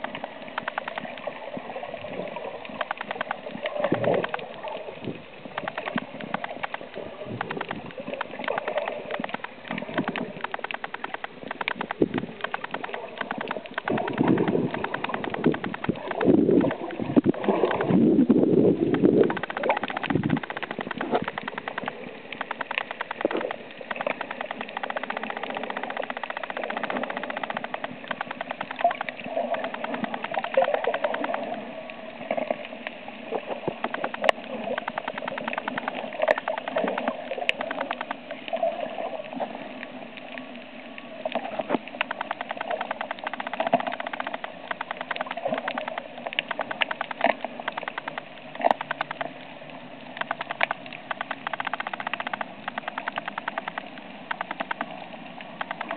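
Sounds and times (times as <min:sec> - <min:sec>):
muffled underwater rushing: 0:00.0 - 0:55.9
underwater crackle: 0:00.0 - 0:55.9.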